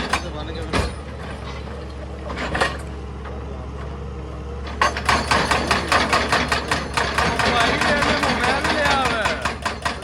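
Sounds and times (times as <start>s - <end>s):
excavator diesel engine humming: 0.0s - 10.0s.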